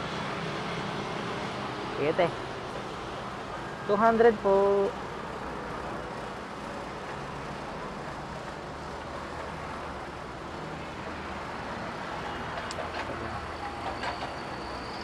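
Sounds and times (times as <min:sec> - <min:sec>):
road traffic and engines: 0:00.0 - 0:15.0.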